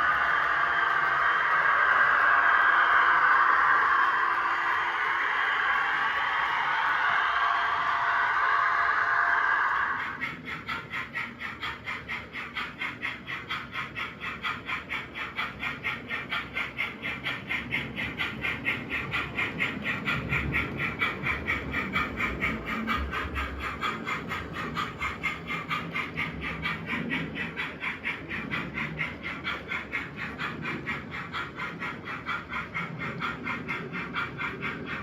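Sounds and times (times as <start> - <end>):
model train rhythmic pulse: 0.0 - 35.0.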